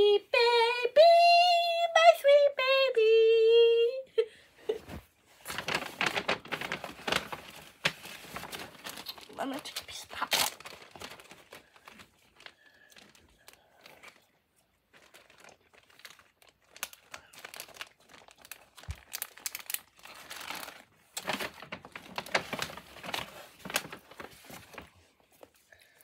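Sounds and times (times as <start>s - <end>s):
plastic bag crinkling: 4.8s - 25.6s.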